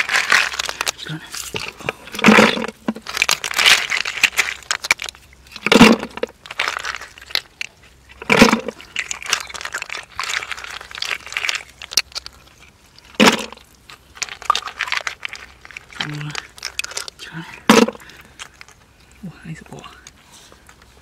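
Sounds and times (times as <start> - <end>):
hands squelching in wet mud: 0.0 - 18.7.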